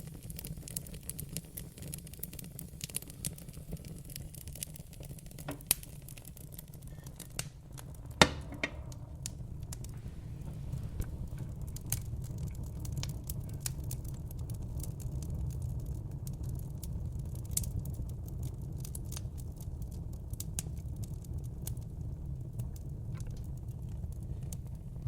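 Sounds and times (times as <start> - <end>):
sharp pops of fire: 0.0 - 21.9
wood fire crackling: 0.0 - 25.0
low steady rumble: 3.6 - 25.0.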